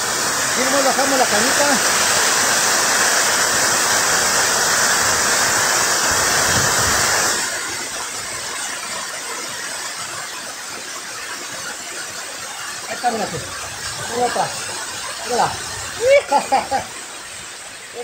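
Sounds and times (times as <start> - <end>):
waterfall pouring over rocks: 0.0 - 18.0.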